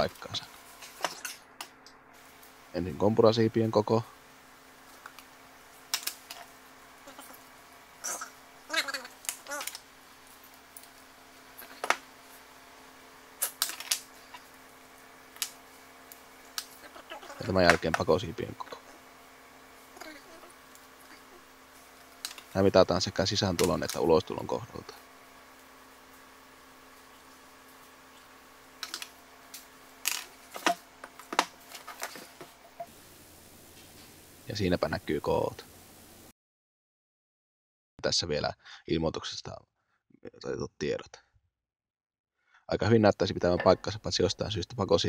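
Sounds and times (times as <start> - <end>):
faint steady hum: 0.0 - 36.3.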